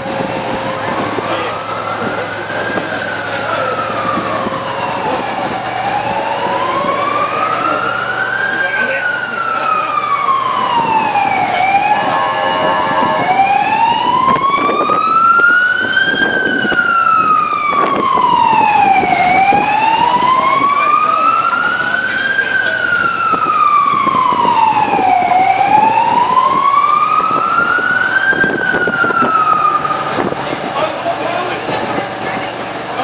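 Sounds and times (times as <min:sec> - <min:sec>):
siren wailing: 0:00.0 - 0:30.5
street noise: 0:00.0 - 0:33.0.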